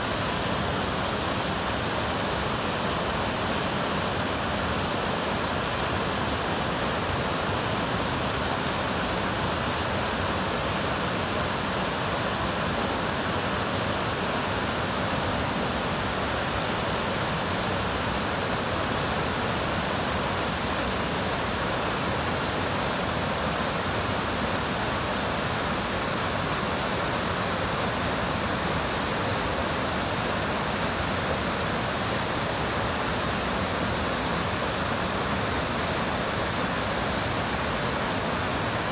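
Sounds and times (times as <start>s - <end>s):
river rushing over boulders: 0.0s - 38.9s.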